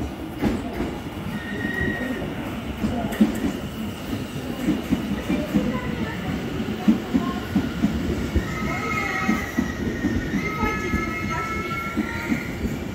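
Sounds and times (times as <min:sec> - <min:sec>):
train wheels clattering: 0:00.0 - 0:12.9.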